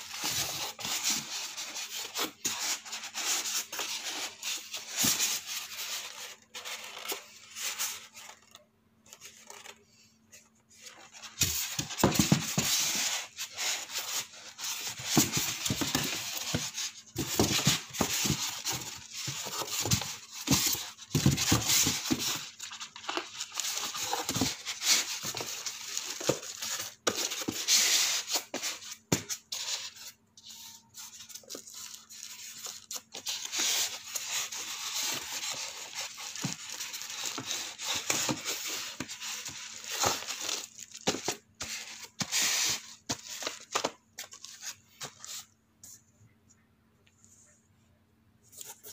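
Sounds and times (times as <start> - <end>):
plastic and paper crinkling: 0.0 - 45.6.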